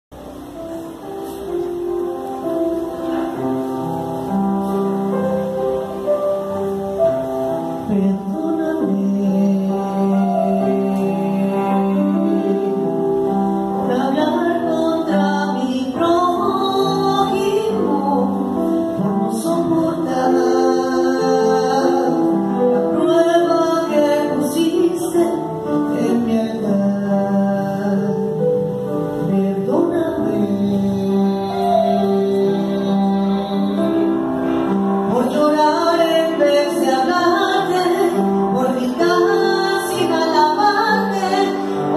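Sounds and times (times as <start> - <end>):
woman singing into a microphone: 7.6 - 41.9.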